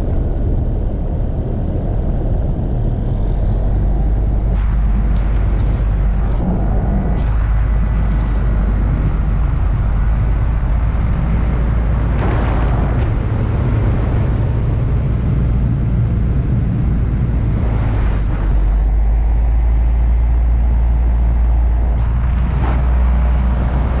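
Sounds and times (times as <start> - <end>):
paramotor engine running: 0.0 - 24.0
wind noise on microphone: 0.0 - 24.0.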